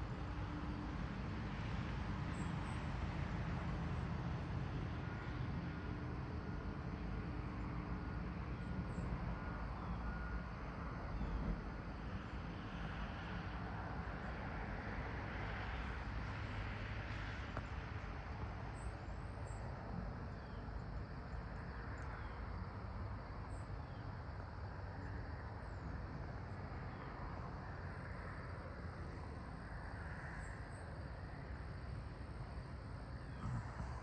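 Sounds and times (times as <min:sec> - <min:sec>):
distant road traffic rumble: 0:00.0 - 0:34.0.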